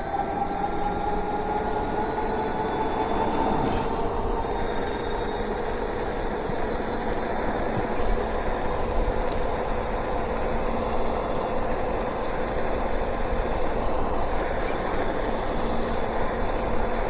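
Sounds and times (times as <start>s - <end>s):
electric hub motor whine: 0.0s - 17.0s.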